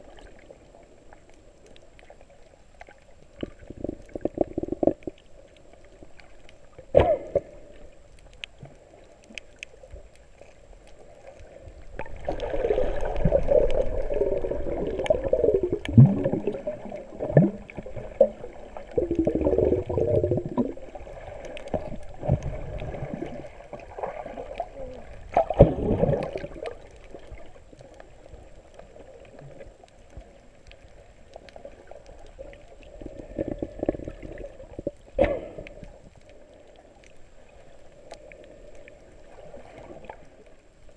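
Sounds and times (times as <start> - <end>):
muffled underwater gurgling: 2.4 - 8.0, 10.1 - 40.4.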